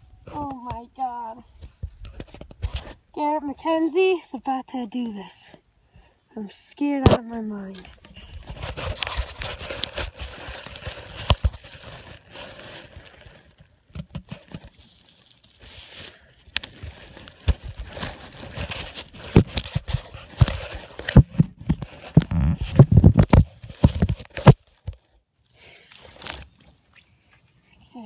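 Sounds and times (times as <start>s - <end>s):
grass rustling against microphone: 0.0s - 28.0s.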